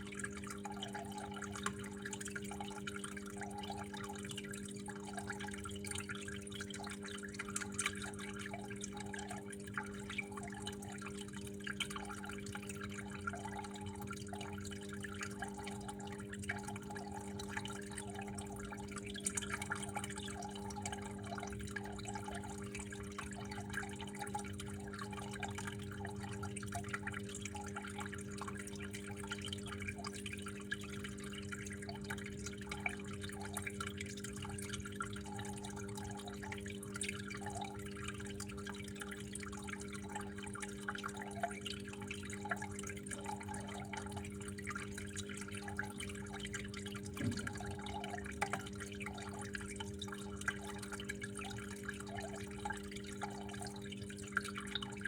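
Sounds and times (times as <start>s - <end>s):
water dripping and splashing: 0.0s - 55.0s
steady low hum: 7.5s - 54.2s.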